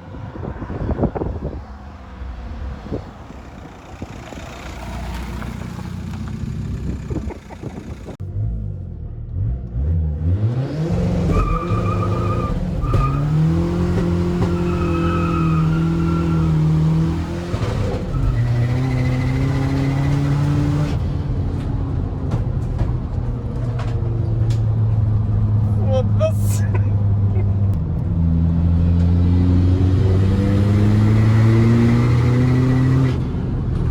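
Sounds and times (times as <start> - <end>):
diesel engine accelerating hard: 0.0 - 26.2, 26.8 - 33.9.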